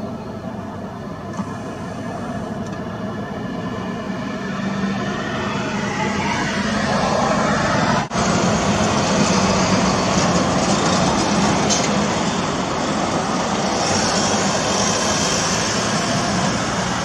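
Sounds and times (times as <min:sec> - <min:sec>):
garbage truck diesel engine: 0:00.0 - 0:17.0.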